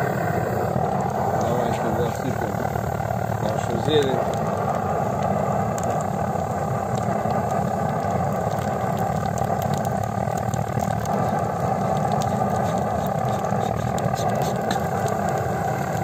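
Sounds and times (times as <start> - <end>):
blowtorch burning steadily: 0.0 - 16.0.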